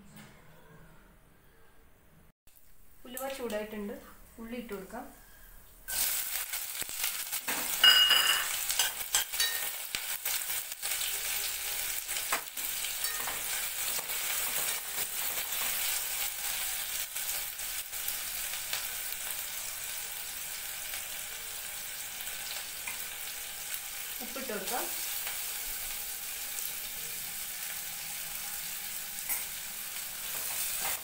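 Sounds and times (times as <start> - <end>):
onions sizzling in hot oil: 5.9 - 31.0.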